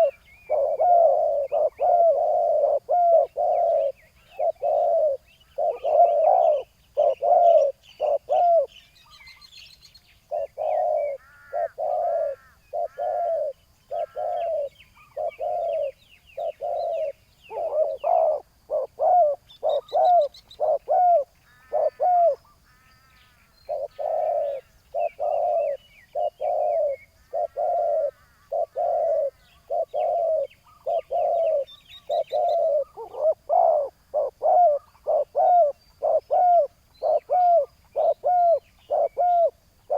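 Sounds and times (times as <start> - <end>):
doves cooing: 0.0 - 9.4, 10.2 - 39.9
high chirps of small birds: 0.0 - 39.9.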